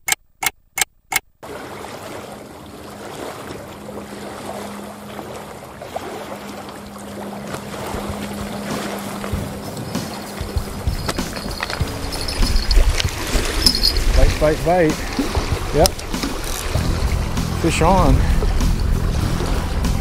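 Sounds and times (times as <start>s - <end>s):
wind: 0.0s - 20.0s
waves washing against rocky shore: 1.4s - 20.0s.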